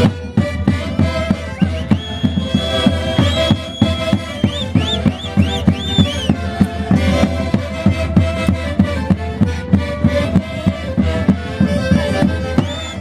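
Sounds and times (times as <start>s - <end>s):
violin-led folk ensemble: 0.0s - 13.0s.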